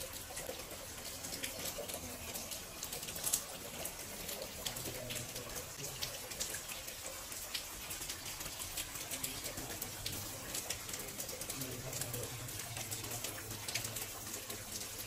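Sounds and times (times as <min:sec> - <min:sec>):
water drips ticking: 0:00.0 - 0:15.0.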